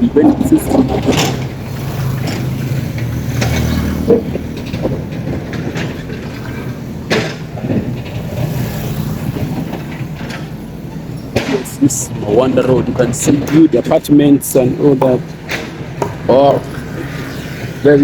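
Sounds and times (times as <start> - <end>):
vehicle engine humming: 0.0 - 18.0
sharp knocks: 0.8 - 10.6, 11.3 - 14.0, 14.9 - 16.8.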